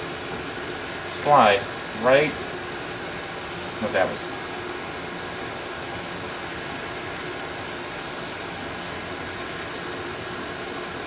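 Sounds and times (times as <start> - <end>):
faint steady hum: 0.0 - 11.0
pancakes sizzling on griddle: 0.0 - 11.0.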